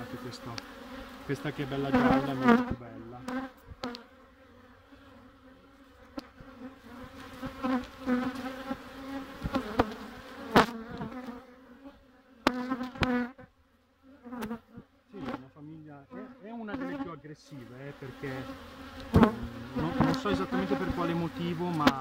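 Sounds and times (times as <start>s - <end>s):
bees buzzing: 0.0s - 13.5s, 14.1s - 22.0s
bees flying past microphone: 0.0s - 13.5s, 16.1s - 22.0s.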